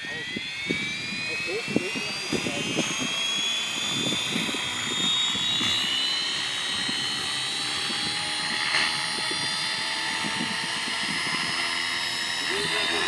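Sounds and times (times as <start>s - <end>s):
rc helicopter rotor whine: 0.0s - 13.0s.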